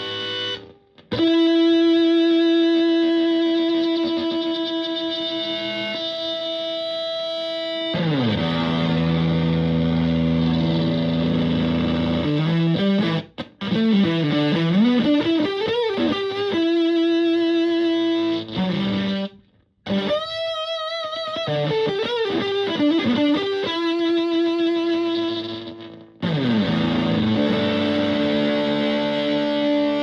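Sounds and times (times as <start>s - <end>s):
distorted fuzz electric guitar: 0.0s - 30.0s.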